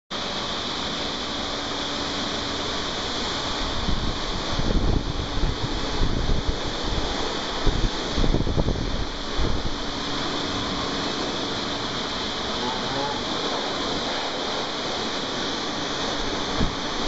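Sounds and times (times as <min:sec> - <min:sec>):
blow dryer running: 0:00.1 - 0:17.0
wind buffeting microphone: 0:02.6 - 0:12.6, 0:13.2 - 0:17.0.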